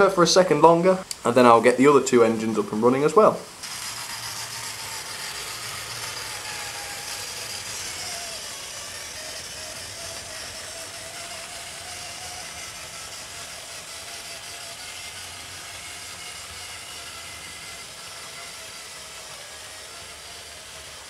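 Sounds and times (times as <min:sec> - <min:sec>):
model train motor whirring: 0:02.3 - 0:21.0.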